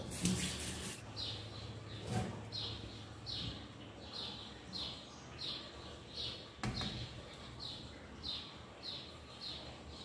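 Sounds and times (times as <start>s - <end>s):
bird chirp: 1.0s - 10.0s.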